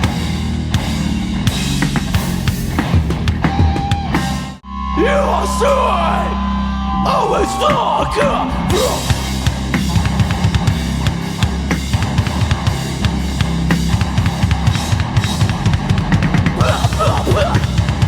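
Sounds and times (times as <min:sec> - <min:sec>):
heavy music with drum kit: 0:00.0 - 0:06.3, 0:07.2 - 0:18.0.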